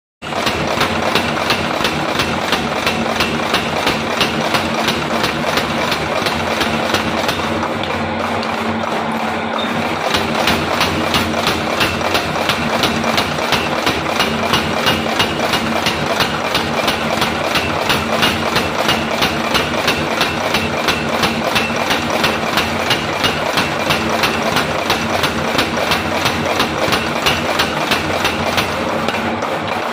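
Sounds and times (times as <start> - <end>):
power hammer pounding steel: 0.2 - 29.9.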